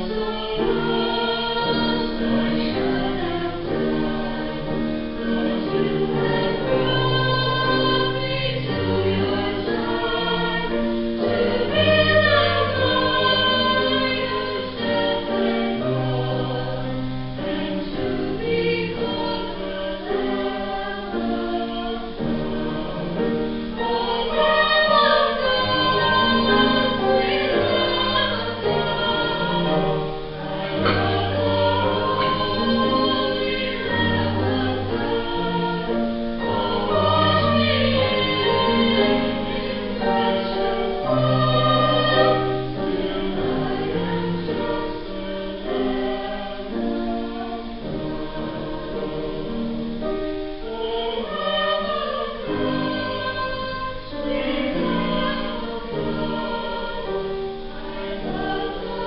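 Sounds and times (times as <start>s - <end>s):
youth choir singing a hymn: 0.0s - 59.0s.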